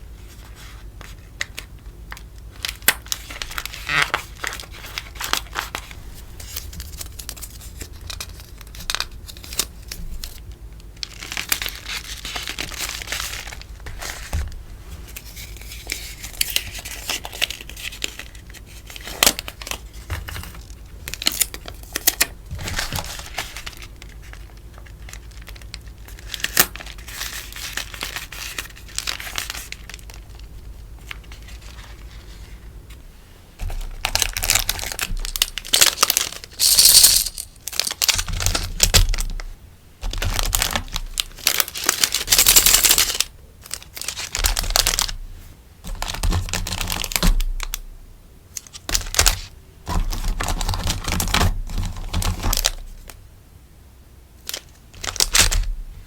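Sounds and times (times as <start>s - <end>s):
paper and plastic crinkling: 0.2s - 33.0s, 33.6s - 45.2s, 45.9s - 47.8s, 48.5s - 53.2s, 54.4s - 55.7s.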